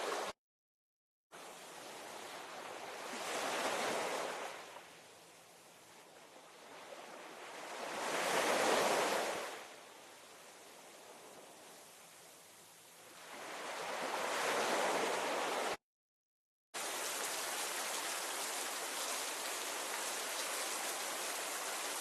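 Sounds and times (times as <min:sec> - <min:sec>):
ocean waves washing onto shore: 0:00.0 - 0:00.4, 0:01.4 - 0:05.0, 0:05.9 - 0:12.2, 0:13.0 - 0:15.8, 0:16.8 - 0:22.0.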